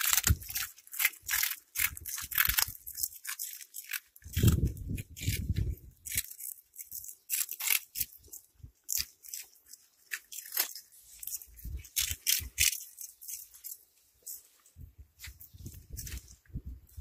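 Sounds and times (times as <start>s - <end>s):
cats crunching snacks: 0.0s - 14.4s.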